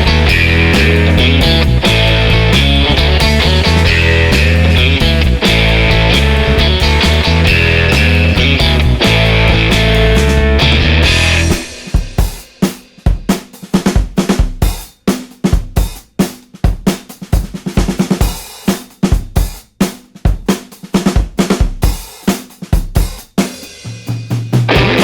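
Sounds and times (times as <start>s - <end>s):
drum kit playing: 0.0s - 25.0s.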